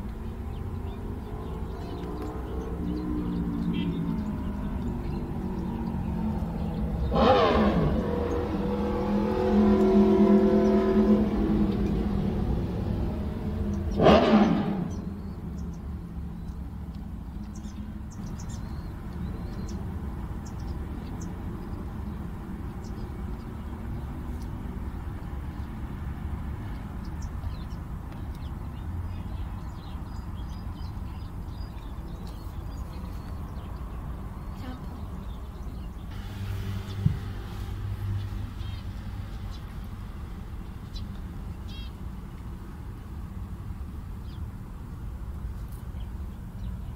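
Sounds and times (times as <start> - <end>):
vehicle passing: 0.0 - 45.5
low traffic rumble: 0.0 - 46.9.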